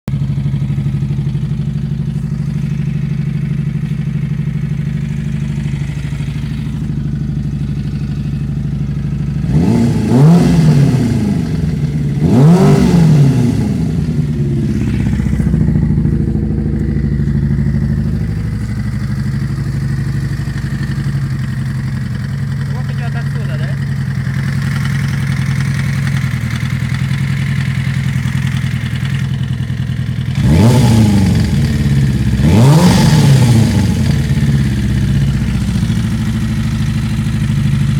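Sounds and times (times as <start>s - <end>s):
engine idling and revving: 0.0s - 37.9s
engine knocking: 0.1s - 13.1s, 14.1s - 37.9s.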